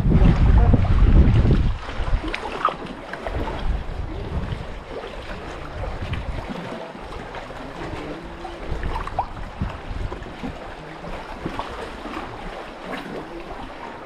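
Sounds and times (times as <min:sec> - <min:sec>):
wind buffeting microphone: 0:00.0 - 0:13.9
water washing: 0:00.0 - 0:14.0.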